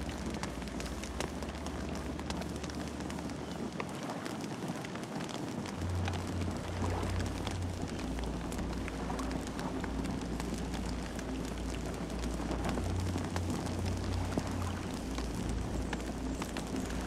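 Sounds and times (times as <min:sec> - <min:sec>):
campfire crackling: 0:00.0 - 0:17.0
low fire rumble: 0:00.0 - 0:17.0.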